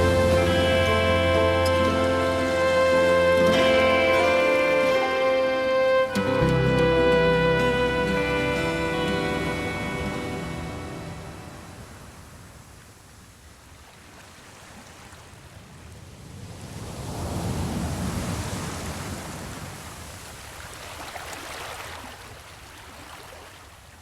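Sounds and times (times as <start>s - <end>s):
ocean surf breaking on beach: 0.0s - 23.3s.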